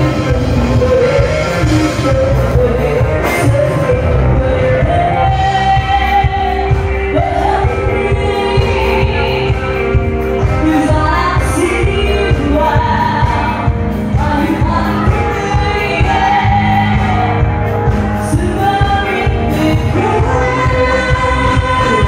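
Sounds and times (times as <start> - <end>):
live pop-rock band: 0.0 - 22.0
person singing: 0.0 - 22.0.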